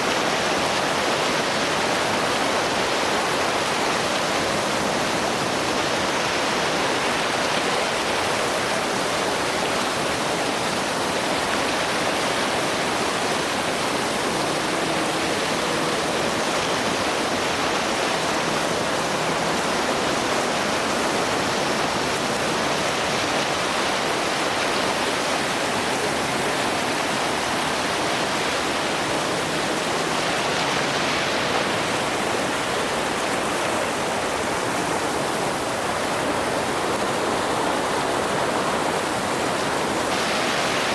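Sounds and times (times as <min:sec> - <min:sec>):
river rushing over falls: 0:00.0 - 0:40.9.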